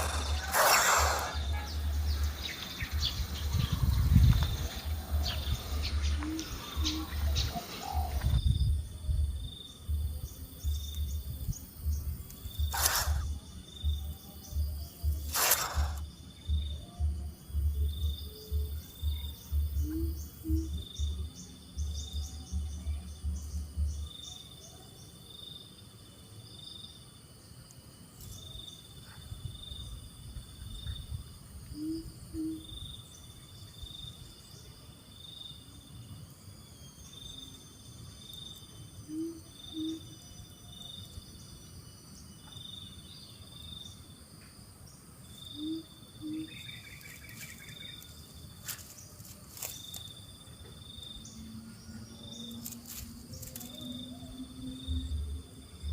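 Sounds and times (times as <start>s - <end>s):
pulsing insect trill: 0.0s - 55.9s.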